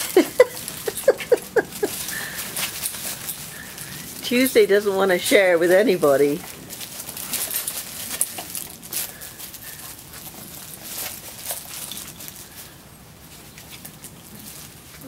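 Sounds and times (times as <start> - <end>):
puppies scuffling in bedding: 0.0 - 15.0.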